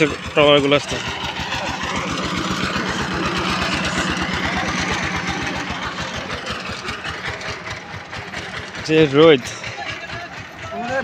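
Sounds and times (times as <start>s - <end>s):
vehicle engine chugging: 0.0s - 11.0s.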